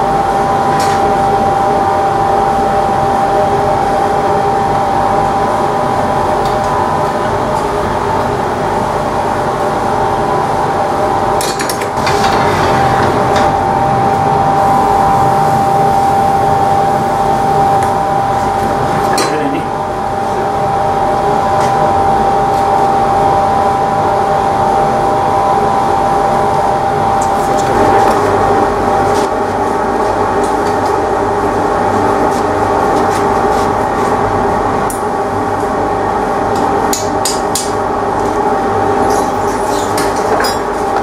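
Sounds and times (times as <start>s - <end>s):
furnace roaring: 0.0s - 41.0s.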